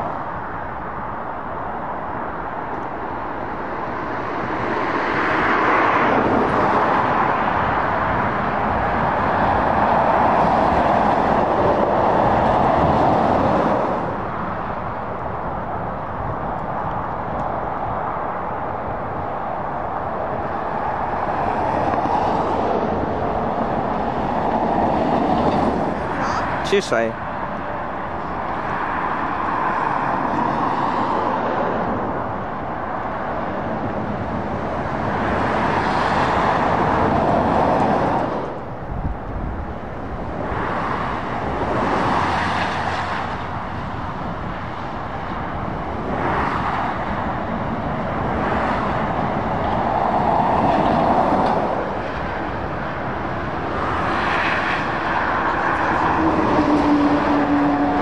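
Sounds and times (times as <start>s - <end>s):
traffic passing: 0.0s - 58.0s.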